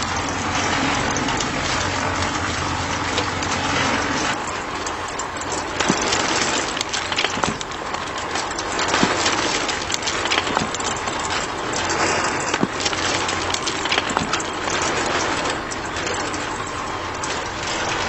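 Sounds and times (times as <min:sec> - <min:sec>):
crackling and clicking: 0:00.0 - 0:18.0.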